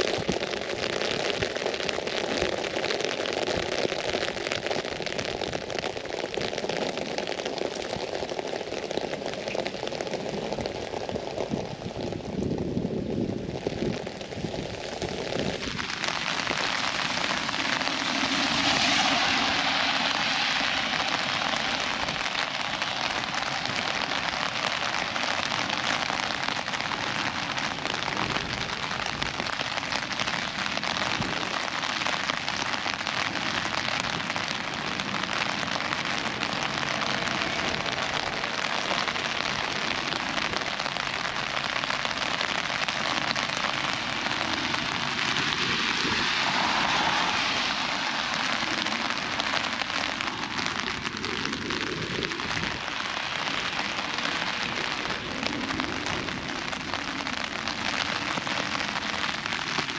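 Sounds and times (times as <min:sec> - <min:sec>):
rain on an umbrella: 0:00.0 - 0:59.9.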